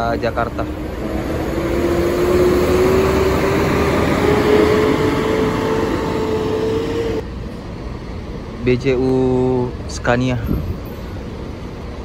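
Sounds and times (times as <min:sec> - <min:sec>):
bus engine whine: 0:00.0 - 0:12.0.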